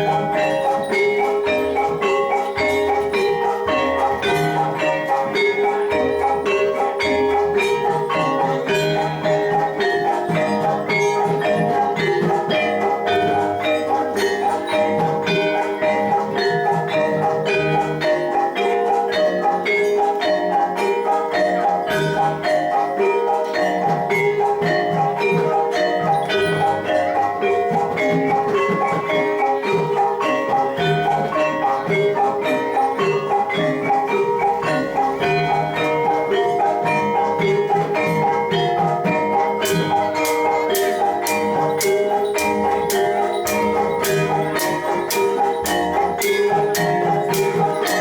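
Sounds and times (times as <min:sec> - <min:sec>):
bronze mallet instruments struck: 0:00.0 - 0:48.0.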